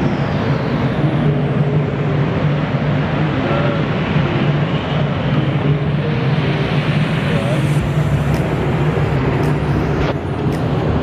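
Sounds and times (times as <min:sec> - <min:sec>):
constant low drone: 0:00.0 - 0:11.0
ship rumbling and rushing at sea: 0:00.0 - 0:11.0.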